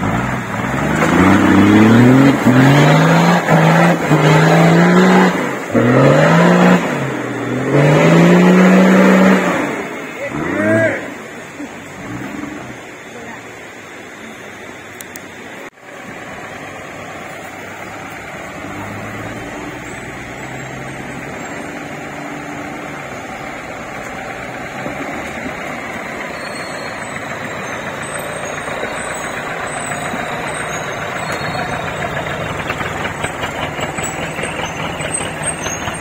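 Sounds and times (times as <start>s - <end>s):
off-road vehicle engine: 0.0s - 36.0s.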